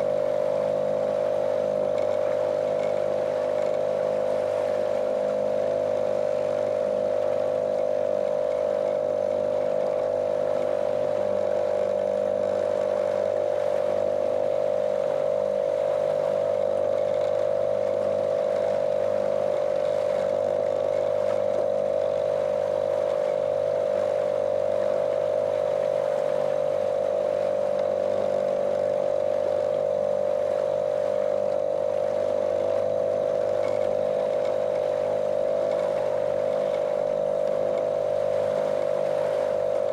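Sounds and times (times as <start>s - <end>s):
outboard motor droning: 0.0s - 39.9s
water rushing under hull: 0.0s - 39.9s.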